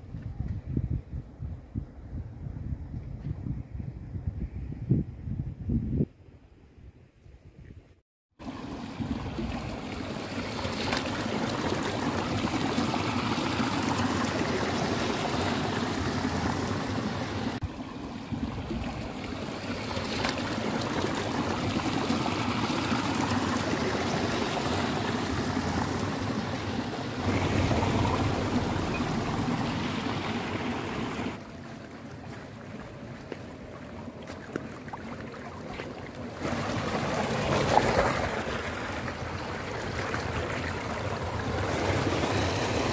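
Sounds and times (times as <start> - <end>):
water rushing in a channel: 8.4 - 42.9.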